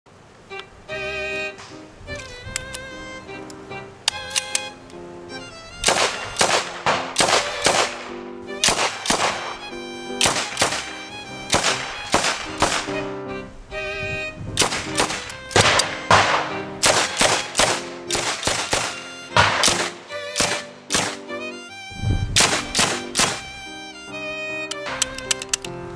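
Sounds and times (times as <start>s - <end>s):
background music: 0.5s - 25.9s.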